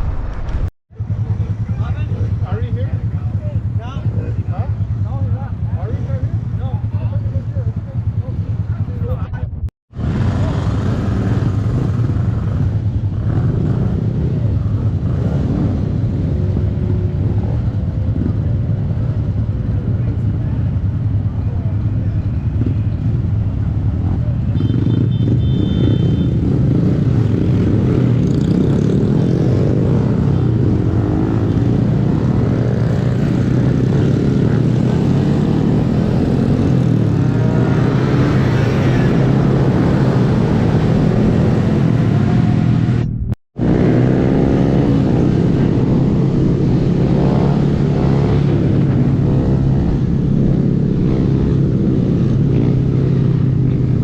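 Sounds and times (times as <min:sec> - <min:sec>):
rushing wind: 0:00.0 - 0:04.5, 0:06.4 - 0:54.0
motorcycle engine revving: 0:10.0 - 0:54.0.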